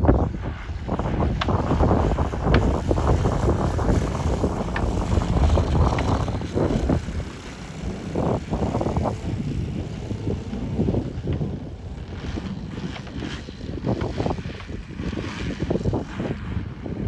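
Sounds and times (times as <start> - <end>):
wind buffeting microphone: 0.0 - 17.0
model plane engine idling: 0.4 - 16.8.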